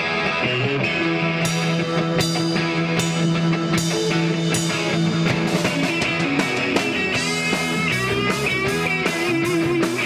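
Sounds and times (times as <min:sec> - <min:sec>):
lead guitar bent notes: 0:00.0 - 0:10.0
live rock band playing: 0:00.0 - 0:10.0.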